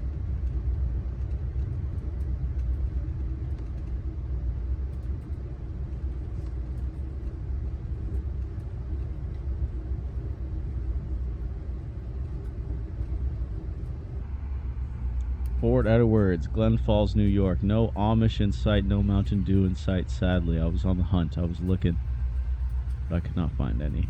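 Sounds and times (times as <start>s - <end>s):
train rumble from inside coach: 0.0s - 24.0s.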